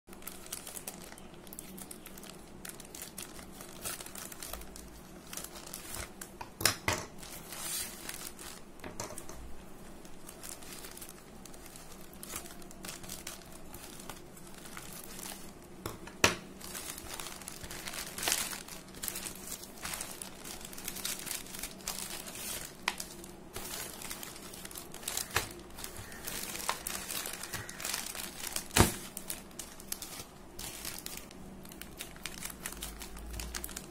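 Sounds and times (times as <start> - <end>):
plastic mailer crinkling: 0.1 - 33.9.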